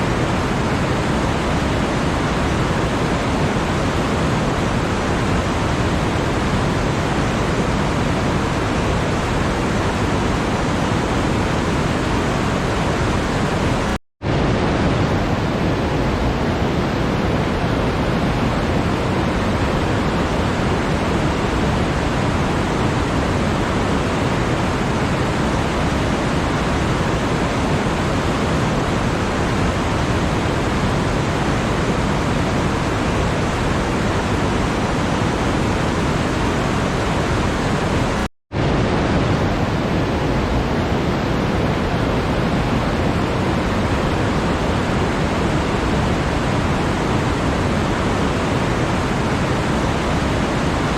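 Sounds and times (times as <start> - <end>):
steady rushing noise: 0.0 - 50.9.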